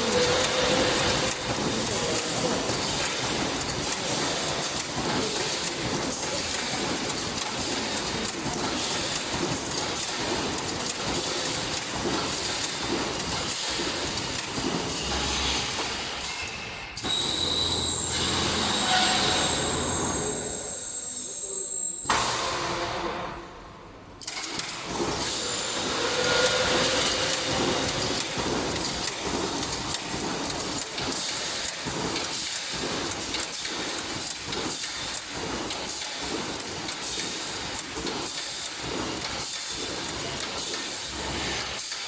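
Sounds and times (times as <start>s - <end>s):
welding machine clattering: 0.0s - 17.3s, 24.2s - 42.0s.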